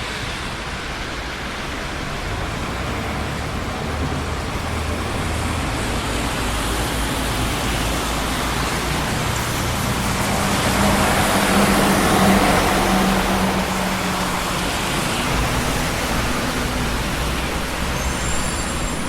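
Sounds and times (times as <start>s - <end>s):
low vehicle engine hum: 0.0s - 19.0s
passing cars: 0.0s - 19.0s.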